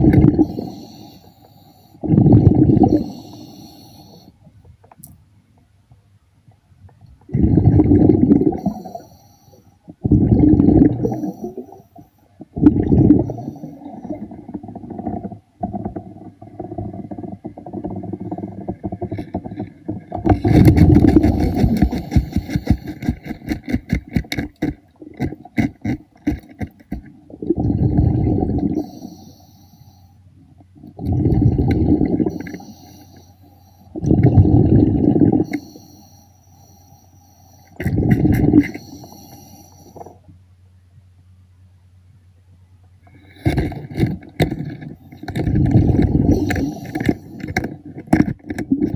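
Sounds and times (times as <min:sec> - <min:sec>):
underwater breathing bubbles: 0:00.0 - 0:04.3, 0:07.3 - 0:30.1, 0:30.9 - 0:40.3, 0:43.1 - 0:48.9.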